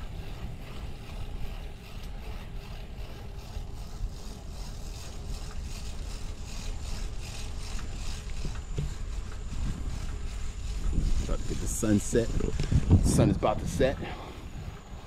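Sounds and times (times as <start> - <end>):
bicycle rattling: 0.0 - 15.0
wind rumbling on microphone: 0.0 - 15.0.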